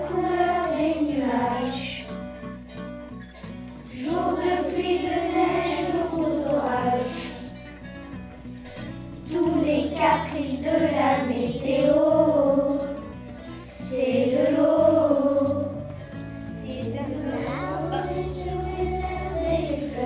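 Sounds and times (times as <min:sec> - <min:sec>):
children singing: 0:00.0 - 0:02.2, 0:03.9 - 0:07.6, 0:09.2 - 0:16.0, 0:16.6 - 0:20.0
musical accompaniment: 0:00.0 - 0:20.0.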